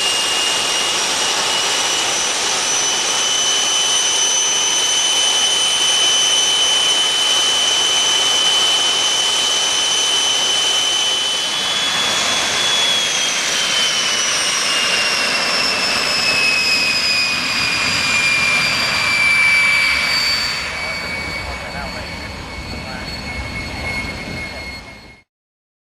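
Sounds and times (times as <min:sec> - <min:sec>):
jet engine whine and roar: 0:00.0 - 0:25.3.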